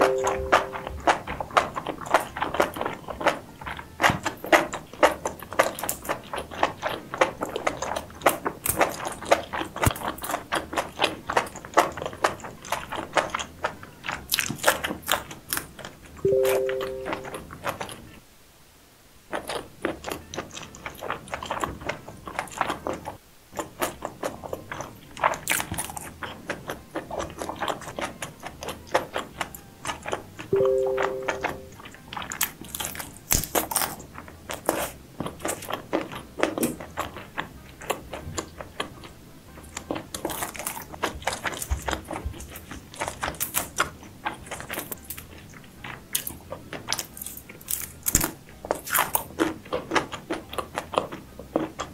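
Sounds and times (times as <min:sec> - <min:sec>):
chewing and crunching seafood: 0:00.0 - 0:18.2, 0:19.3 - 0:51.9.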